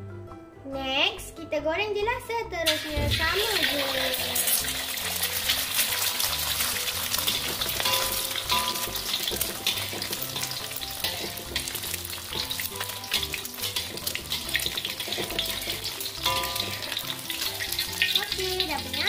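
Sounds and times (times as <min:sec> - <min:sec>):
soft background music: 0:00.0 - 0:19.0
egg sizzling in hot oil: 0:02.7 - 0:19.0.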